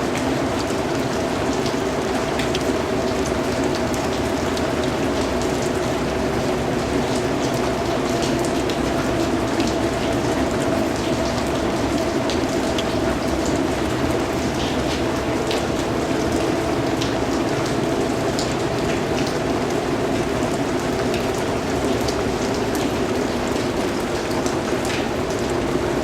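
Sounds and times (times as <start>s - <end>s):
raindrops ticking on a surface: 0.0s - 26.0s.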